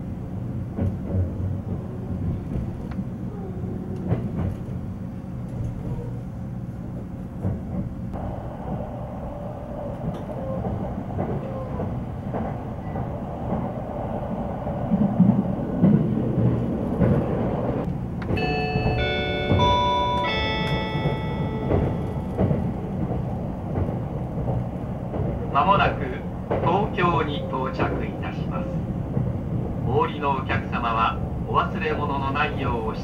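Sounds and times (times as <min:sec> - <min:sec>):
train wheels rumbling on rail: 0:00.0 - 0:33.0
rail joint clicks: 0:00.3 - 0:03.2, 0:03.8 - 0:33.0.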